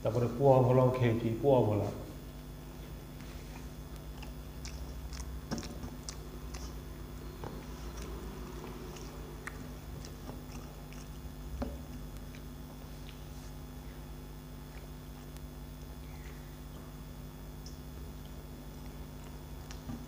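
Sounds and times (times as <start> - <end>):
low hum: 0.0 - 20.0
chewing: 2.9 - 20.0.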